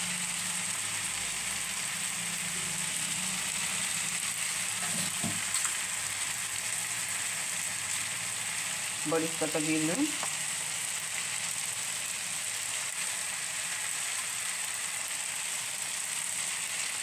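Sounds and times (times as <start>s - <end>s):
ghee sizzling in a hot pan: 0.0s - 17.0s.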